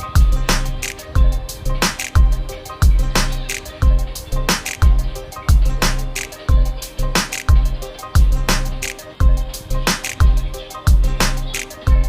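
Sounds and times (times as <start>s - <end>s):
background music with bass drum: 0.0s - 12.0s.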